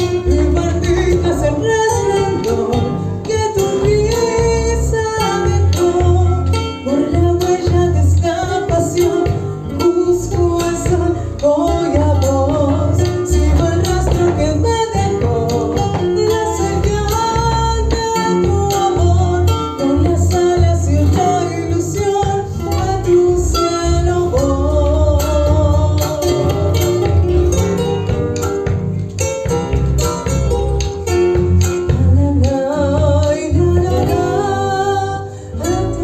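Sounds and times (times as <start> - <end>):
woman singing a folk song: 0.0 - 27.6, 31.4 - 36.0
plucked guitar: 0.0 - 36.0.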